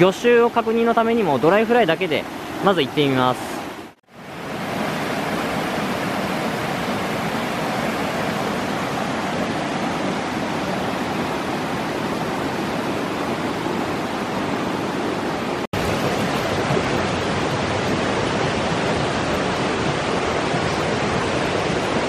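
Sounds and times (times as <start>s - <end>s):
mountain river flowing over rocks: 0.0s - 22.0s.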